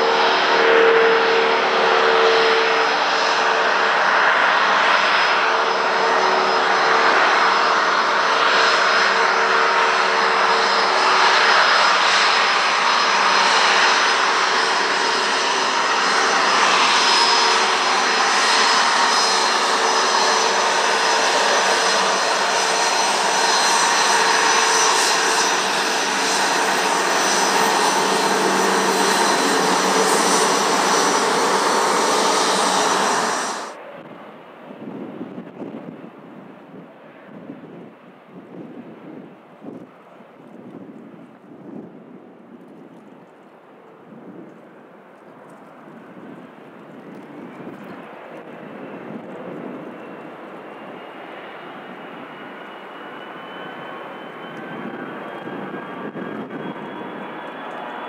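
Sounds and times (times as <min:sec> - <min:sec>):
jet engines roaring: 0:00.0 - 0:37.9, 0:43.8 - 0:58.0.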